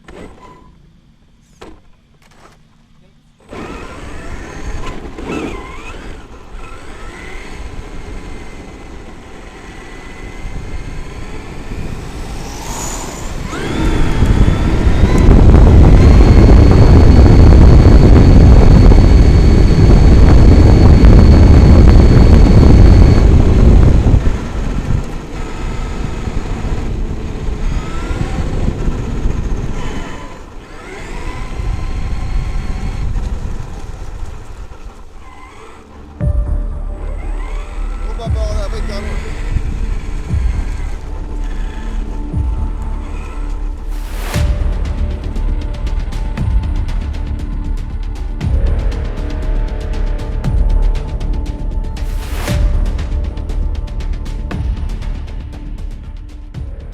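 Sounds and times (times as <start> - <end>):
electric motor whining: 0.0 - 53.9
loud low rumble: 6.0 - 56.9.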